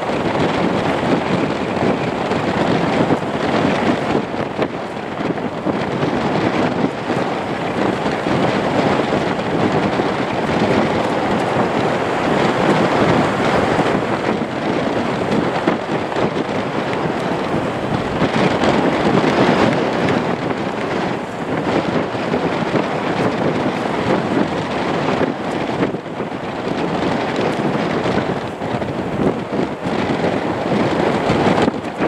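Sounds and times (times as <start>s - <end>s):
turboprop aircraft engines running: 0.0s - 32.0s
wind buffeting microphone: 0.0s - 32.0s.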